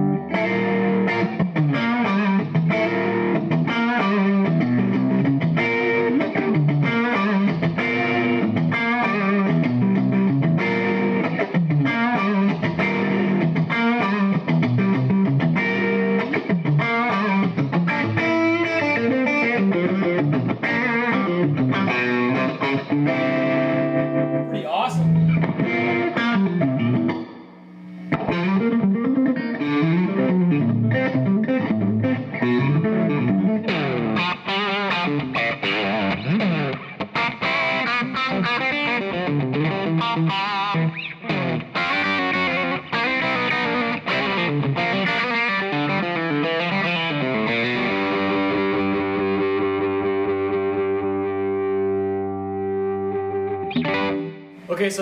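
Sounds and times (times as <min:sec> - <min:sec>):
overdriven electric guitar lead: 0:00.0 - 0:55.0.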